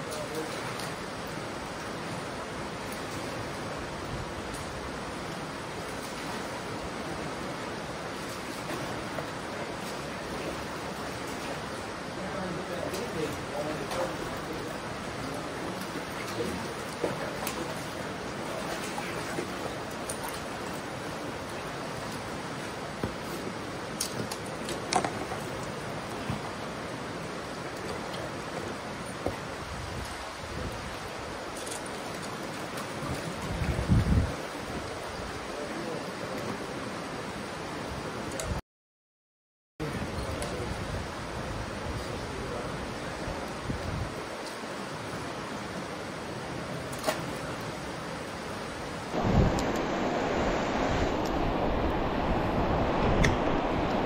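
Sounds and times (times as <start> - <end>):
river flowing over rocks: 0.0 - 38.3, 39.8 - 54.0.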